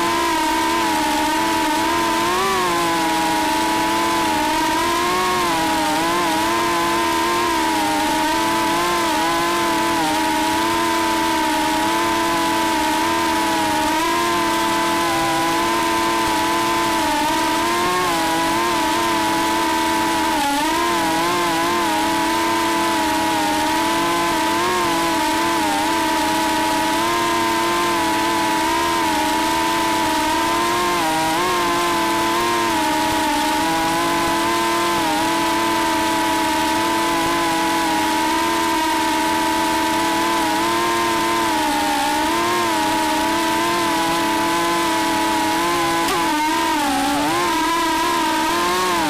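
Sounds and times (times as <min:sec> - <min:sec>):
quadcopter motors whining: 0:00.0 - 0:49.0.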